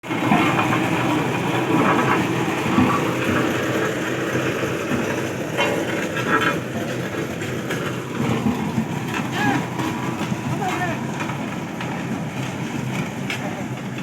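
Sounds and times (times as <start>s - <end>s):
road roller engine rattling: 0.0s - 14.0s.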